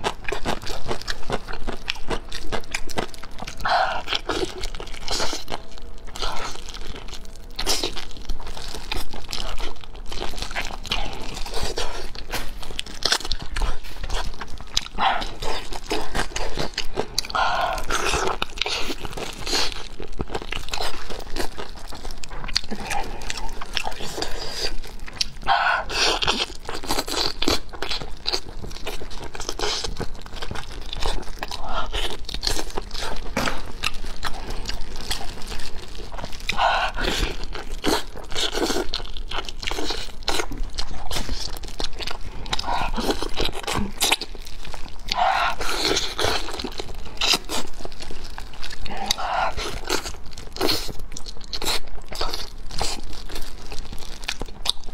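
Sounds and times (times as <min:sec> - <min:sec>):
person chewing with wet smacks: 0:00.0 - 0:54.9.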